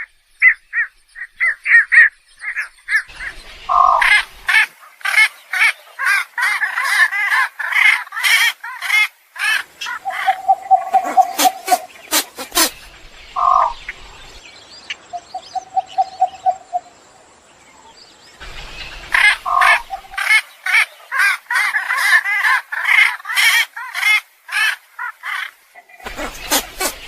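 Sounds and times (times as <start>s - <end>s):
egrets croaking squawks: 0.4s - 14.0s, 18.8s - 27.0s.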